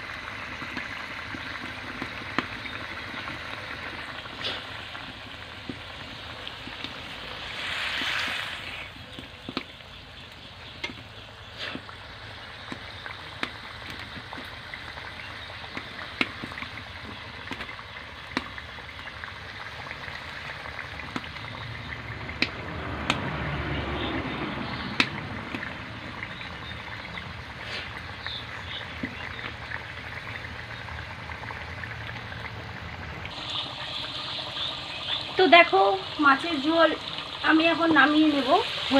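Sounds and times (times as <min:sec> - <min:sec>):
curry simmering and bubbling: 0:00.0 - 0:38.9.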